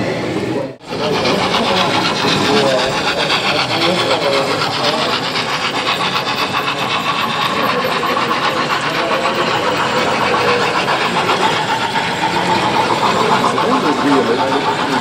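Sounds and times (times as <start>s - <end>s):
model train wheels clicking: 0.8s - 15.0s.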